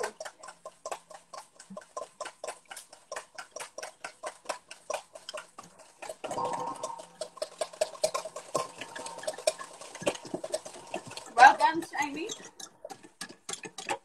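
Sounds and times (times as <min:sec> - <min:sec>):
whisk beating in glass bowl: 0:00.0 - 0:14.0.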